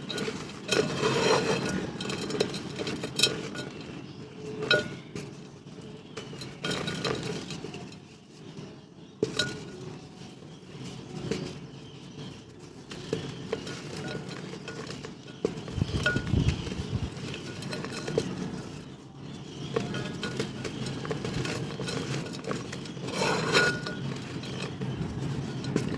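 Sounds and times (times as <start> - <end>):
dried mud and pottery crunching: 0.0 - 25.9.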